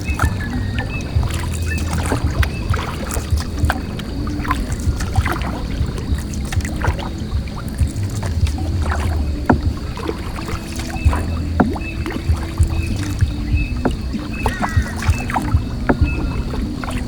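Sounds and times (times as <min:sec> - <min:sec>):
background music: 0:00.0 - 0:17.0
boat engine hum: 0:00.0 - 0:17.0
knocks against boat hull: 0:00.0 - 0:17.0
water splashing: 0:00.0 - 0:17.0.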